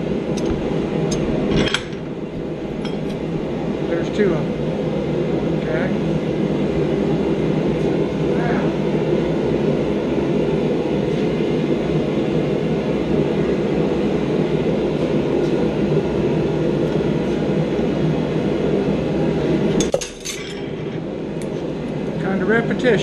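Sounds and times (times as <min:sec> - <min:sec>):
forge roaring: 0:00.0 - 0:23.0.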